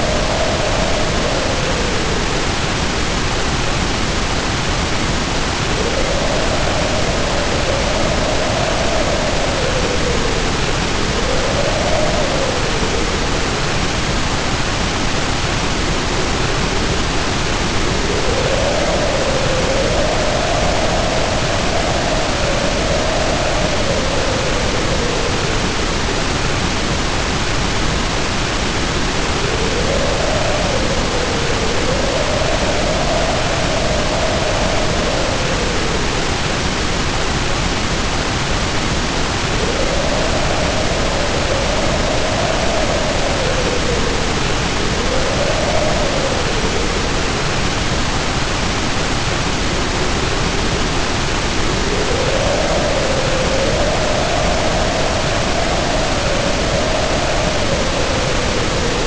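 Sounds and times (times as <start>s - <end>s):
heavy rain pouring: 0.0s - 59.0s
wind howling: 0.0s - 59.0s.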